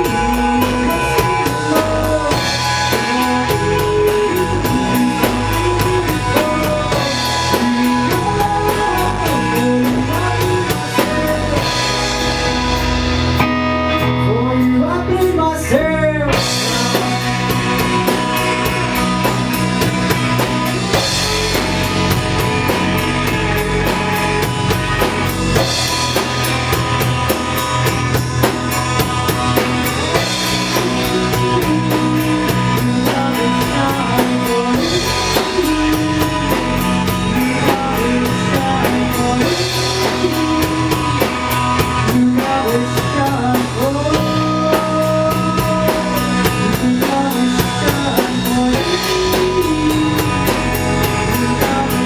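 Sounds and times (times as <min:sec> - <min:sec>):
drum kit beat: 0:00.0 - 0:14.2, 0:16.3 - 0:52.0
person singing: 0:00.0 - 0:24.1, 0:29.6 - 0:52.0
guitar: 0:00.0 - 0:52.0.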